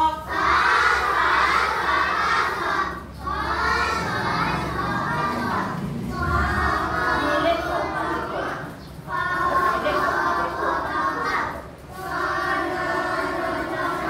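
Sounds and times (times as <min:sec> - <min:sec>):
children reading aloud in chorus: 0:00.0 - 0:14.0.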